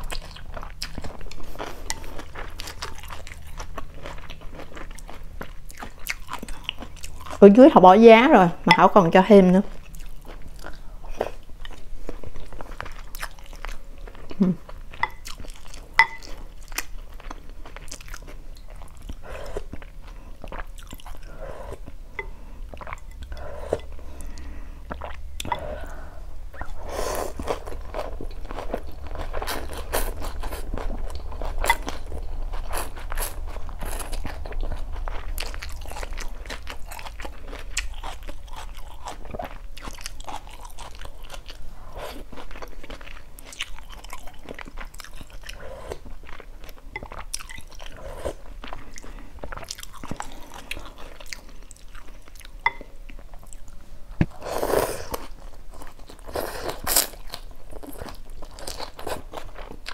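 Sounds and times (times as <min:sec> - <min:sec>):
chewing and crunching noodles: 0:00.0 - 0:07.7, 0:09.6 - 0:59.9.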